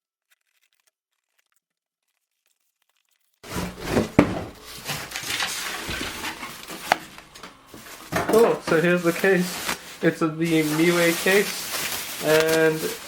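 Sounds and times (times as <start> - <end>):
packaging crinkling and tearing: 0.1 - 13.0.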